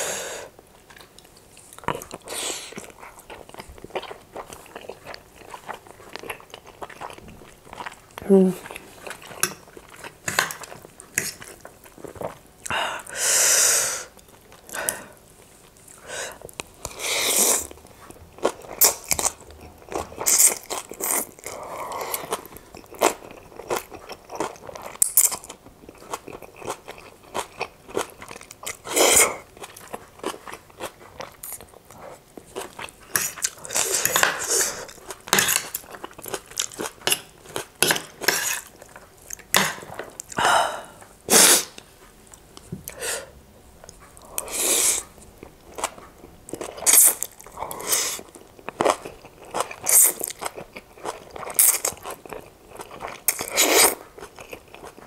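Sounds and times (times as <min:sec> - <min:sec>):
chewing: 0:00.8 - 0:12.8, 0:14.2 - 0:40.4, 0:43.8 - 0:55.0.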